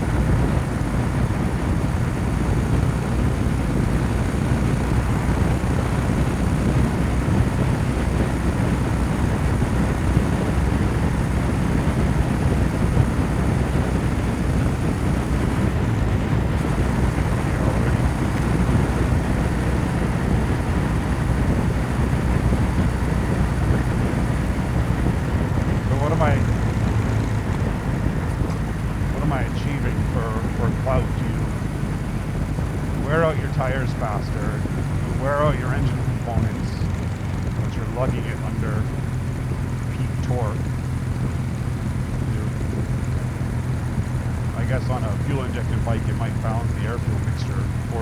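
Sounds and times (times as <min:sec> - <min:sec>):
motorcycle engine and exhaust: 0:00.0 - 0:48.0
wind noise: 0:00.0 - 0:48.0.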